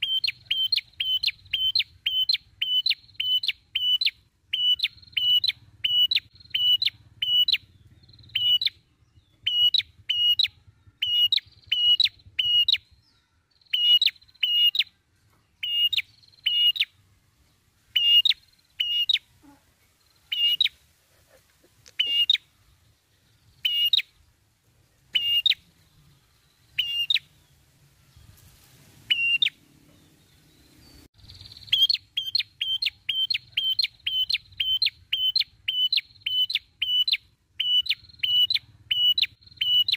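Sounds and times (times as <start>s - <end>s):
bird singing sharp repeated notes: 0.0s - 17.2s, 17.9s - 20.9s, 21.8s - 27.6s, 29.1s - 39.9s.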